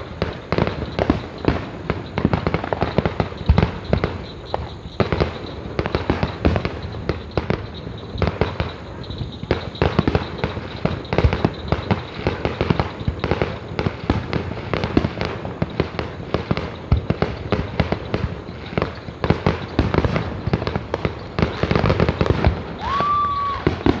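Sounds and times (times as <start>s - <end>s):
firework whistle: 0.0s - 24.0s
fireworks bangs and crackles: 0.0s - 24.0s.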